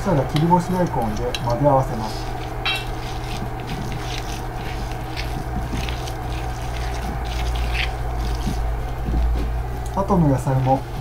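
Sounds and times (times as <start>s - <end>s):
hands squishing ground meat: 0.0s - 11.0s
steady low hum: 0.0s - 11.0s.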